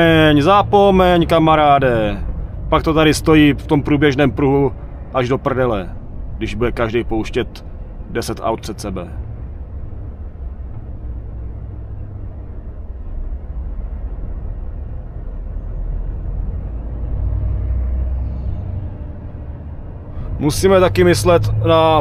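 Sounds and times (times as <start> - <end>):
truck engine rumble in cab: 0.0 - 22.0.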